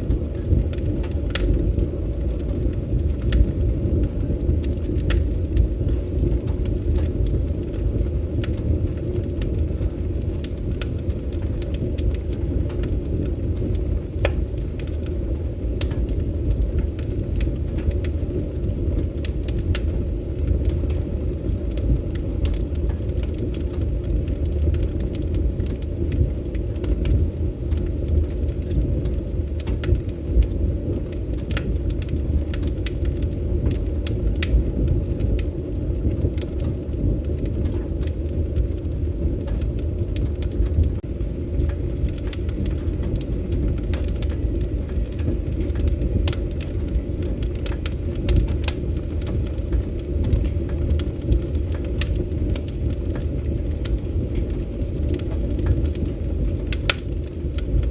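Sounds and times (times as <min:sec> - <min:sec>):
fire roaring: 0:00.0 - 0:57.9
logs crackling and popping: 0:00.0 - 0:57.9.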